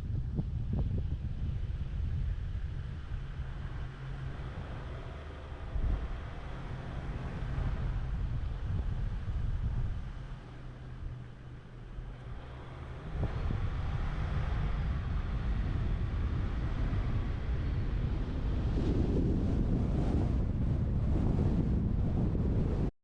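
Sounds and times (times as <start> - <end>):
road and vehicle noise: 0.0 - 22.9
wind rushing over microphone: 0.0 - 22.9.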